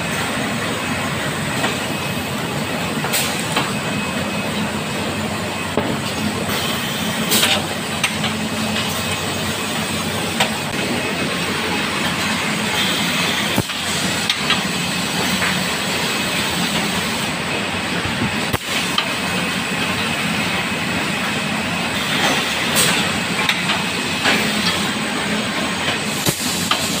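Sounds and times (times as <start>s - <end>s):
machine noise and hiss: 0.0s - 27.0s.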